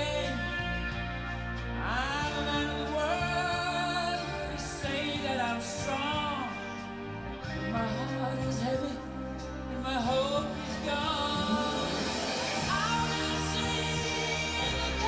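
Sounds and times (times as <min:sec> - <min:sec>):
song over loudspeakers: 0:00.0 - 0:15.0.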